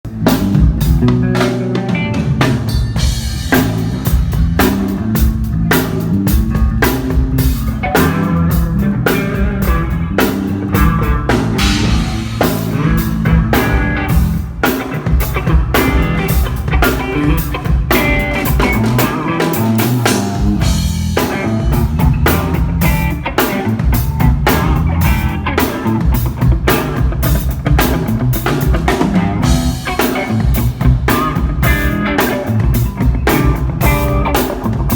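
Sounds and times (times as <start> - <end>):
bass line: 0.0 - 34.9
drum kit: 0.0 - 34.9
electric guitar: 0.1 - 34.9.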